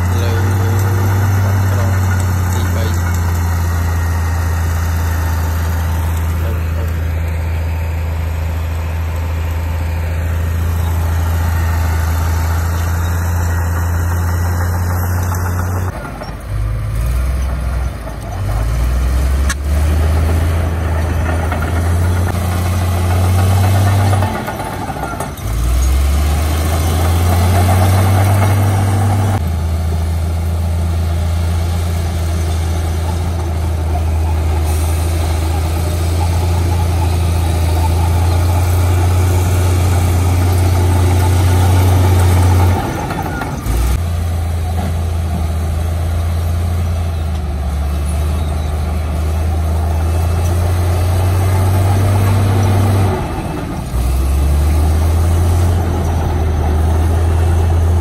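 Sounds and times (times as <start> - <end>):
heavy diesel engine humming: 0.0 - 58.0.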